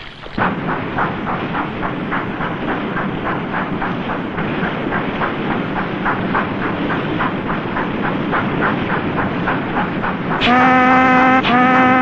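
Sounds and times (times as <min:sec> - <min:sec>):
steam engine chugging: 0:00.0 - 0:12.0.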